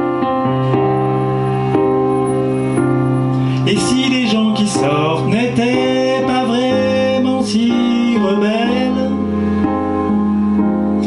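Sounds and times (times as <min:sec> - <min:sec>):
slow piano ballad chords: 0:00.0 - 0:11.0.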